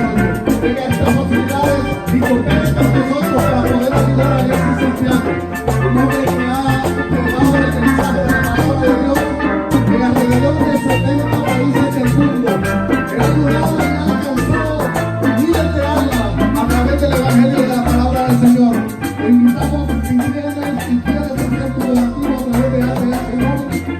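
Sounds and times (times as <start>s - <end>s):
latin music with percussion: 0.0s - 23.9s.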